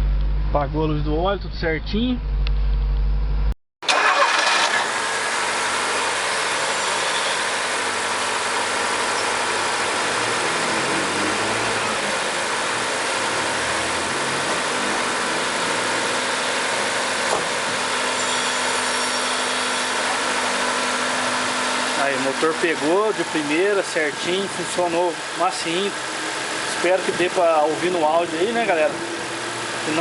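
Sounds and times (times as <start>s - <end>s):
car engine idling: 3.9s - 30.0s.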